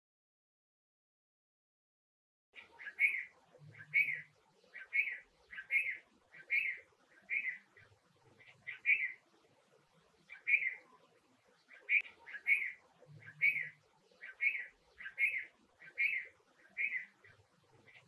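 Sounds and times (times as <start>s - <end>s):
small bird chirping: 2.6s - 18.0s.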